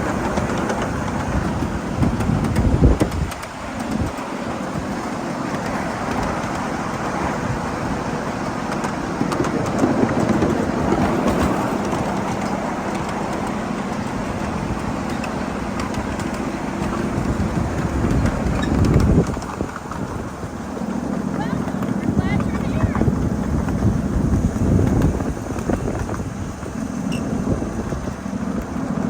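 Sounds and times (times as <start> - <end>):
miniature train rolling on track: 0.0 - 29.0.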